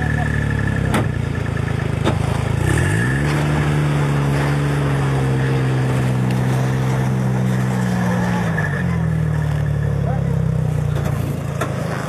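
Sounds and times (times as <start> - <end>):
atv engine at high revs: 0.0 - 12.0.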